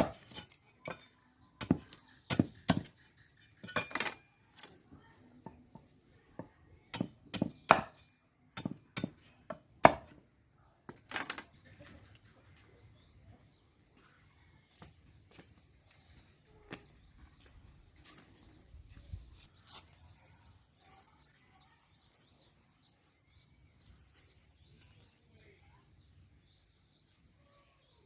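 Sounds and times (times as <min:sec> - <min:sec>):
birds chirping: 0:00.0 - 0:08.3, 0:09.3 - 0:28.0.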